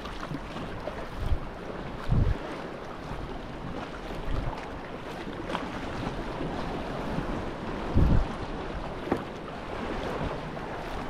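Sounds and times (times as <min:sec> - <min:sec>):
wind noise on microphone: 0:00.0 - 0:02.6, 0:03.2 - 0:04.7, 0:05.7 - 0:11.0
water lapping and splashing: 0:00.0 - 0:11.0.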